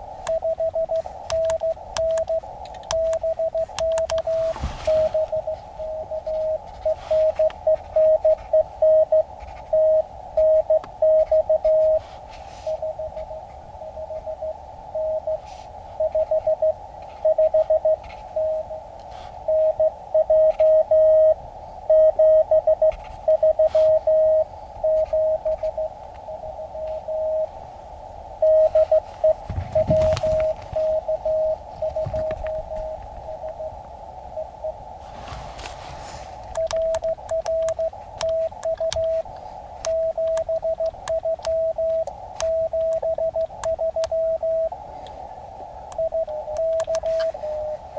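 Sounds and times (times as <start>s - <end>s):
radio receiver hiss: 0.0s - 20.8s, 22.9s - 47.9s
morse code beeps: 0.2s - 12.0s, 12.6s - 18.7s, 19.4s - 27.5s, 28.4s - 34.8s, 36.5s - 44.8s, 45.9s - 47.9s.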